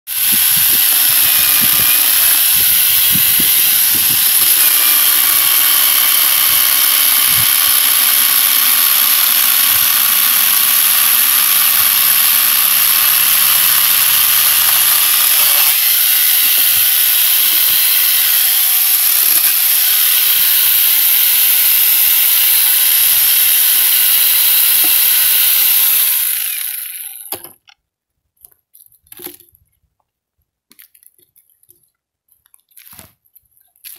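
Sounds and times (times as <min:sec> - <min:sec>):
grinder chainsaw cutting log: 0:00.1 - 0:27.8.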